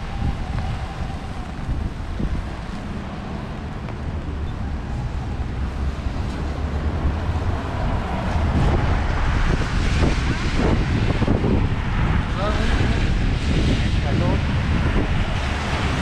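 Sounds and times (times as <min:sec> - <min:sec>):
rain on umbrella: 0:00.0 - 0:16.0
tyres on wet pavement: 0:00.0 - 0:16.0
wind rumble on microphone: 0:00.0 - 0:16.0.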